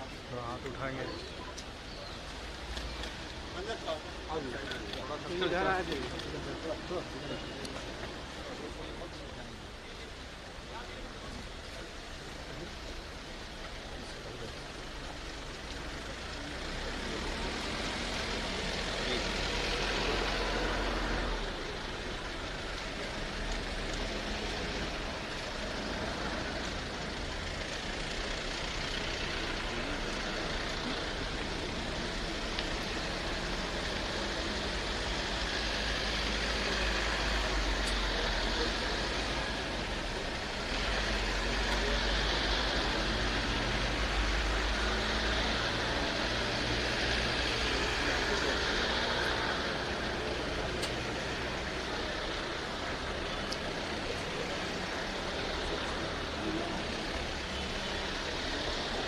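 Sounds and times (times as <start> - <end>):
vehicles driving slowly past: 0.0 - 59.0.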